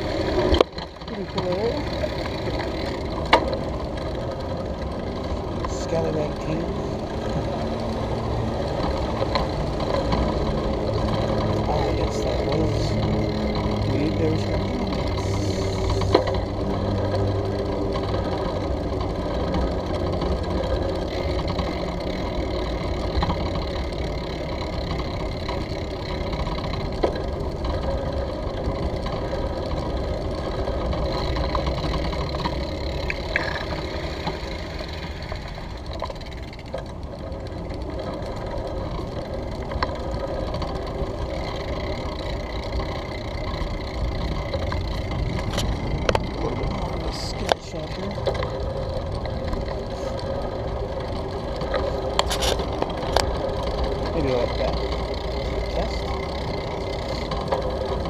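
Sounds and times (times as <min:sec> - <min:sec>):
bicycle rattling over brick pavers: 0:00.0 - 0:58.0.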